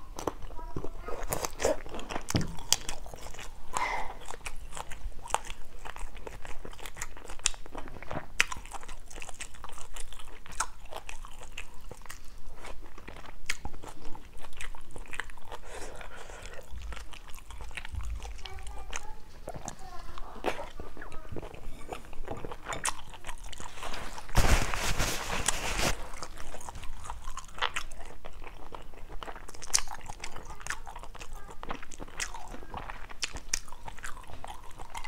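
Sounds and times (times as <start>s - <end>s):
person chewing wet mouth clicks: 0.1s - 23.8s, 26.1s - 35.0s.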